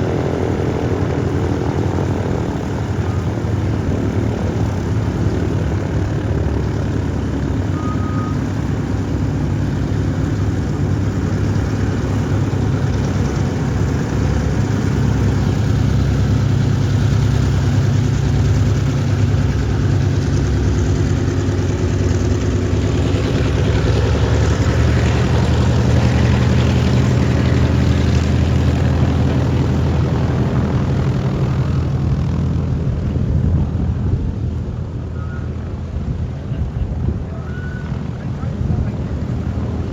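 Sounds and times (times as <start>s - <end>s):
aircraft piston engines droning: 0.0s - 39.9s.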